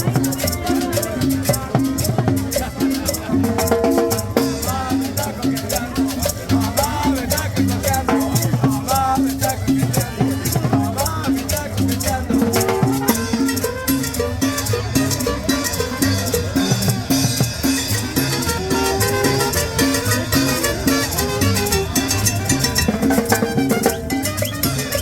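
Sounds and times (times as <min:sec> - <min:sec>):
latin dance music: 0:00.0 - 0:25.0.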